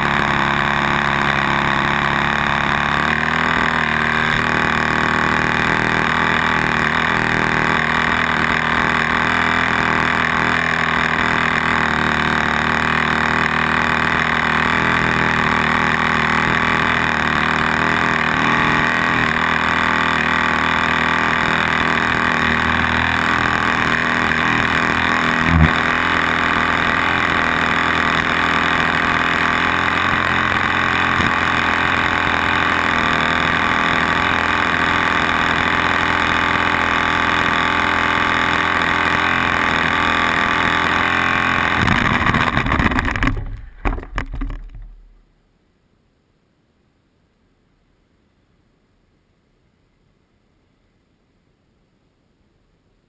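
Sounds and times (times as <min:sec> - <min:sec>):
model aircraft engine running: 0:00.0 - 0:45.1.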